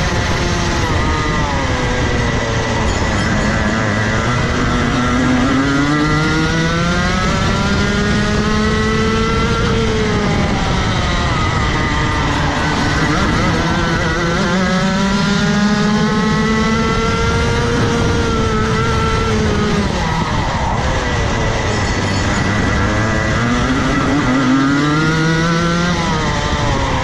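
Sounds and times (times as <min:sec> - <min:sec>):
kart engine accelerating: 0:00.0 - 0:27.0.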